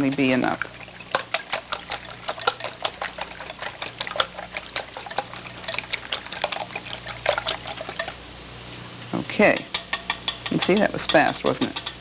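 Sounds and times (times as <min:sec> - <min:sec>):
whisk clicking against bowl: 0:00.0 - 0:08.2, 0:09.4 - 0:12.0.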